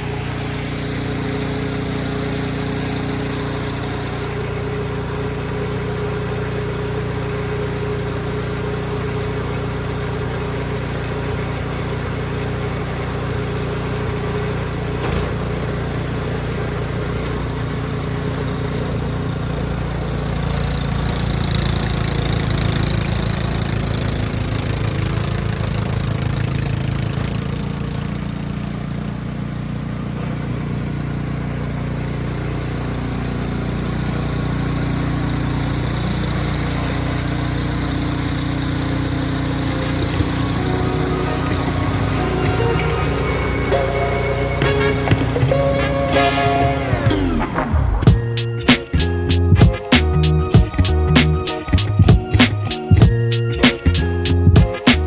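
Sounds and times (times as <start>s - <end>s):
snow blower engine running: 0.0s - 55.0s.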